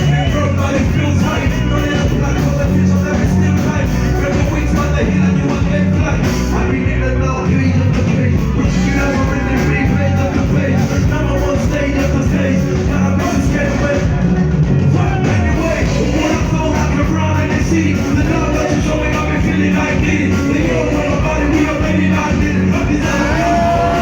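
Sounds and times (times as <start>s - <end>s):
band music over loudspeakers: 0.0s - 24.0s
heavy bass beat: 0.0s - 24.0s.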